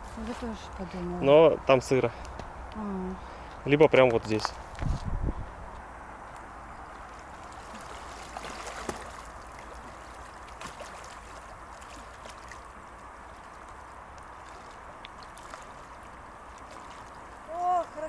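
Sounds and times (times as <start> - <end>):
small water splashes: 0.0 - 5.1, 6.2 - 18.0
lake water splashing and lapping: 0.0 - 18.0.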